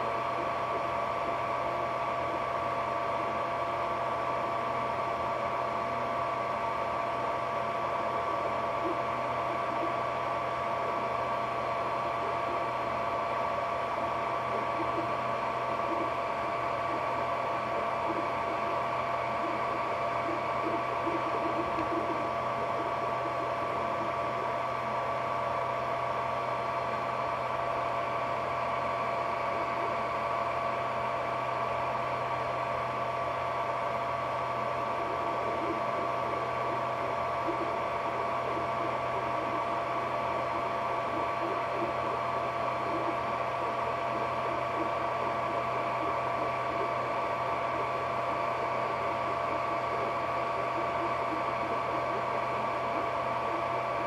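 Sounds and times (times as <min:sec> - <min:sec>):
fans and motors whining: 0:00.0 - 0:54.0.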